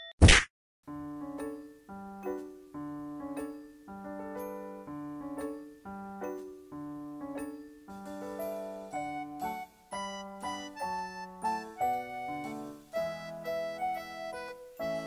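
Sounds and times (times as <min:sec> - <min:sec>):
slow piano chords: 0:00.9 - 0:15.0.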